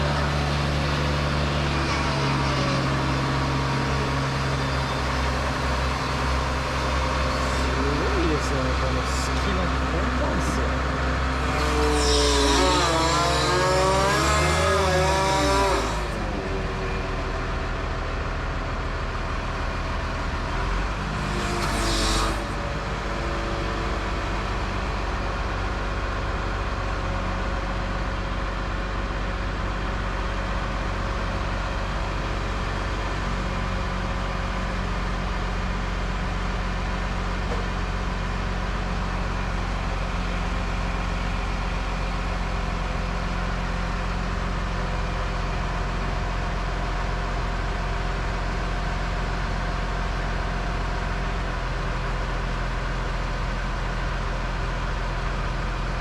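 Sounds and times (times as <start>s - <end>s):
crane diesel engine running: 0.0s - 56.0s.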